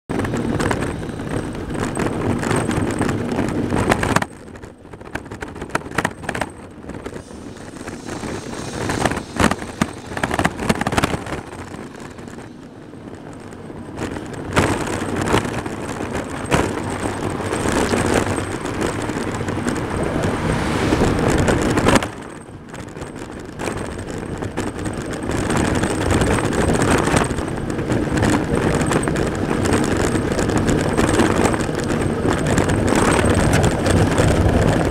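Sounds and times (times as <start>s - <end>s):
camera knocks and rattles: 0.1s - 34.9s
cars driving by: 0.1s - 34.9s
wind and road noise: 0.1s - 34.9s.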